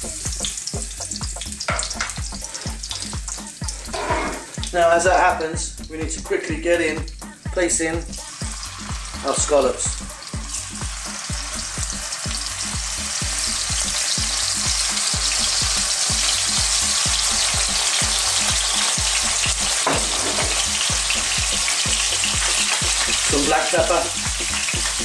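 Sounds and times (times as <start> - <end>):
scallops sizzling in hot oil: 0.0 - 5.9, 6.8 - 25.0.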